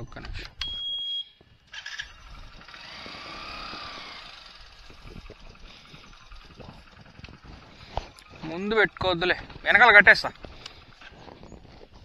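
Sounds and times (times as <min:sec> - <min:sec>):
wind: 0:00.0 - 0:12.0
road rumble: 0:01.4 - 0:12.0
motorcycle engine running: 0:01.5 - 0:12.0.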